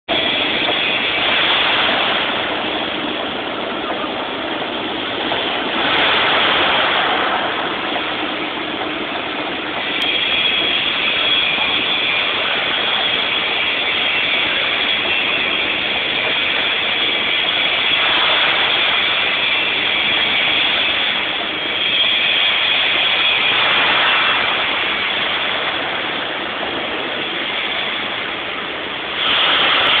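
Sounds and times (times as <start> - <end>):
crane engine running with whine: 0.1 - 30.0.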